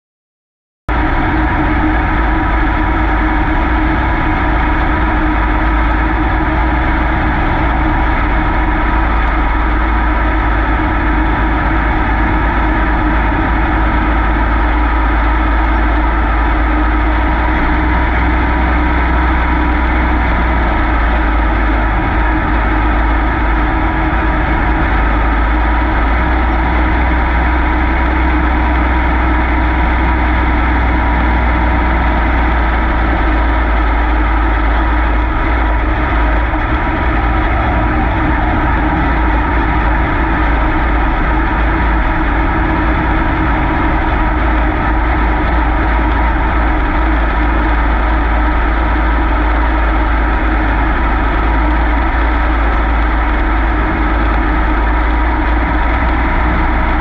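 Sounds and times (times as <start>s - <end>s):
race car engine running loudly: 0.9s - 57.0s.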